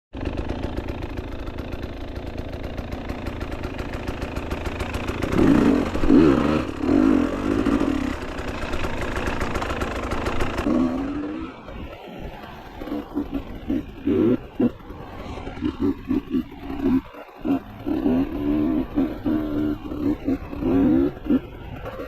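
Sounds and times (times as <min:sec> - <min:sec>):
dirt bike engine revving: 0:00.2 - 0:22.0.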